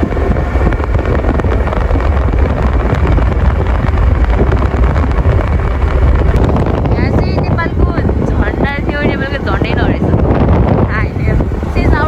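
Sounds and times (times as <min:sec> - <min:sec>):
vehicle noise: 0:00.0 - 0:12.0
wind buffeting microphone: 0:00.0 - 0:12.0.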